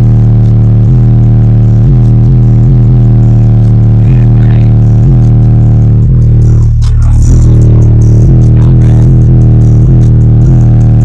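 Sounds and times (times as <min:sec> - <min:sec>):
bass-heavy music through subwoofers: 0:00.0 - 0:11.0.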